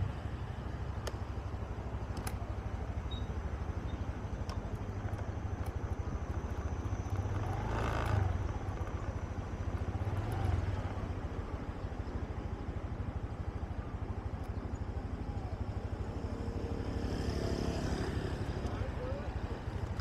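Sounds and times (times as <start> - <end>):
scooter engine running: 0.2 - 20.0.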